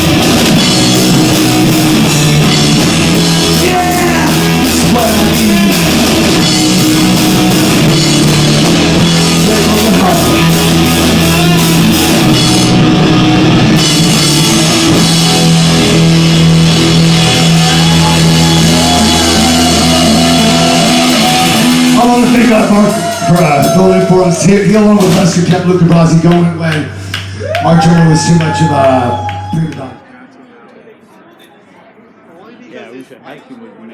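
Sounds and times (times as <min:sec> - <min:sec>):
distorted live rock band: 0:00.0 - 0:29.8.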